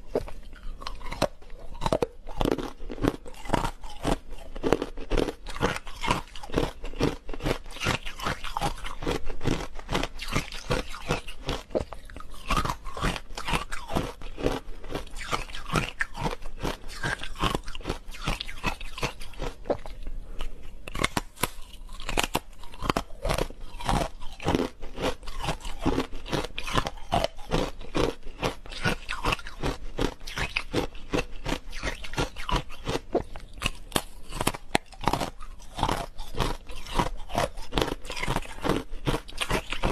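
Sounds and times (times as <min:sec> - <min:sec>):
crunching frozen ice: 0:00.0 - 0:39.9.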